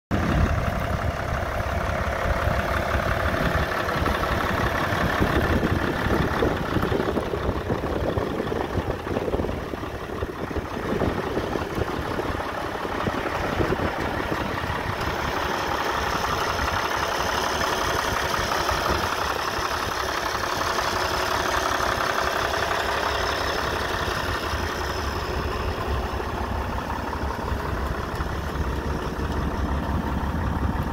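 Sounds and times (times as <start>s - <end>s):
tractor engine idling: 0.1s - 30.9s.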